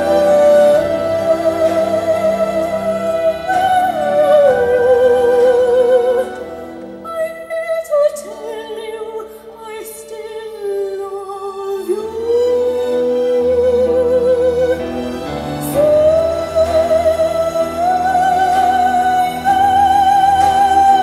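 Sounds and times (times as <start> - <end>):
orchestral accompaniment: 0.0 - 21.0
woman singing classical vocal: 0.0 - 21.0.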